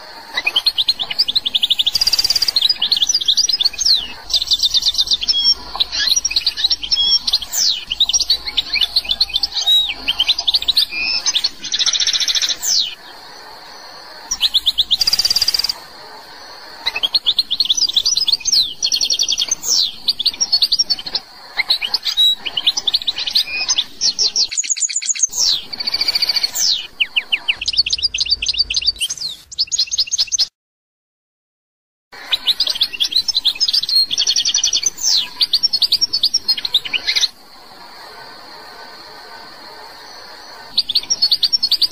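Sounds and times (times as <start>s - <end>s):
goldfinch singing: 0.1s - 16.0s, 16.8s - 30.5s, 32.2s - 37.4s.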